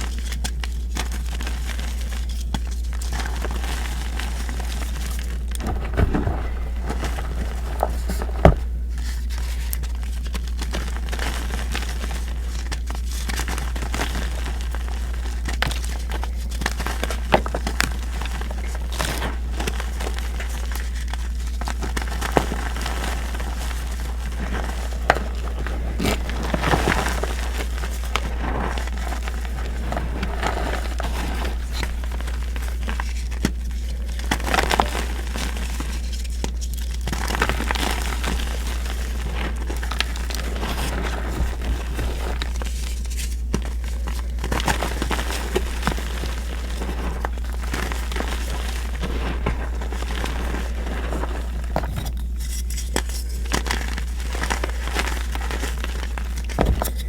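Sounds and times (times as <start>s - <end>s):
chalk crushing and crumbling: 0.0s - 57.0s.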